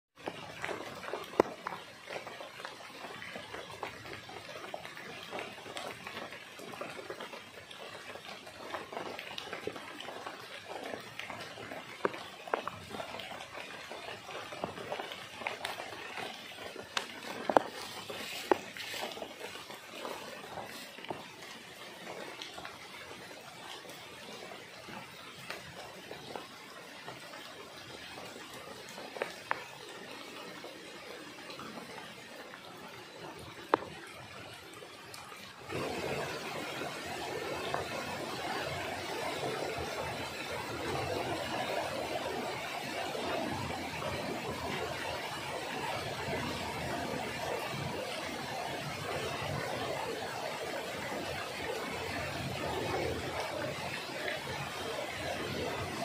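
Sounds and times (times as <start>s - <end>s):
rain falling: 0.2s - 56.0s
sharp louder raindrops: 0.2s - 56.0s.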